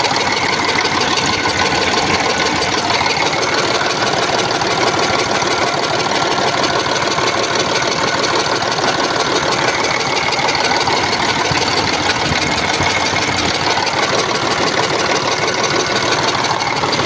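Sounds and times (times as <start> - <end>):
engine idling with knock: 0.0 - 17.0.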